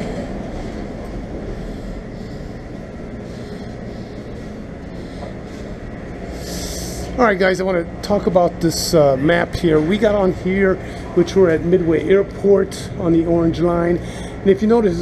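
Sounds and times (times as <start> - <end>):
train car rumble and hum: 0.0 - 15.0.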